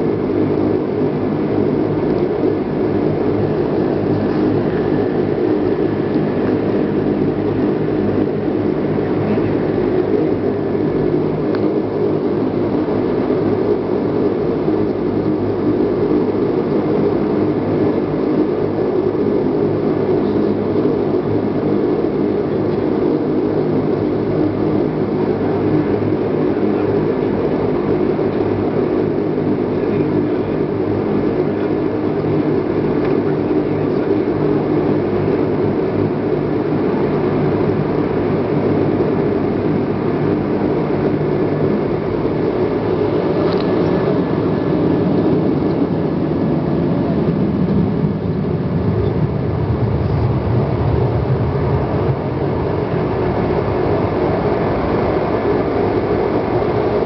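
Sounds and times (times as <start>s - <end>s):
turboprop cabin engine drone: 0.0s - 57.0s.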